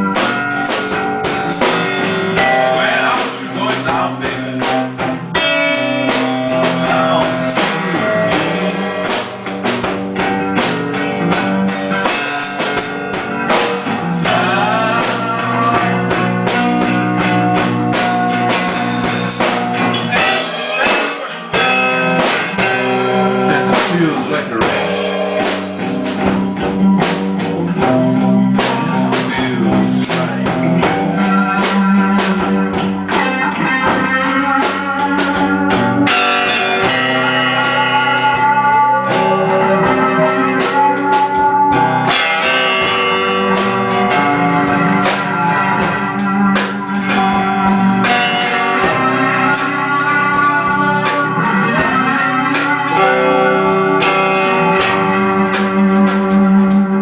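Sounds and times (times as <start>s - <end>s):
drum beat: 0.0s - 56.1s
blues guitar lead: 0.0s - 57.0s
held chords: 0.0s - 57.0s.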